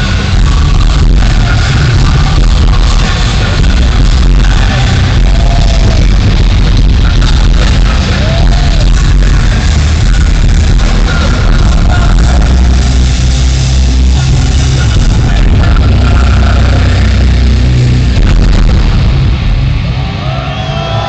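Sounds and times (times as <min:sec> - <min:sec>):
distorted live metal band: 0:00.0 - 0:21.0.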